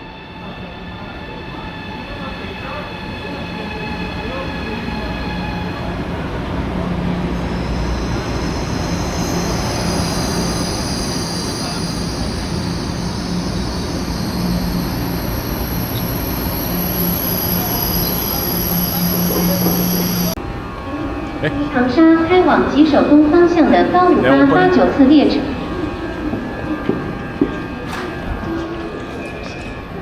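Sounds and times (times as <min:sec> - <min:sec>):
electric train rumbling: 0:00.0 - 0:30.0
high-pitched whines: 0:00.0 - 0:30.0.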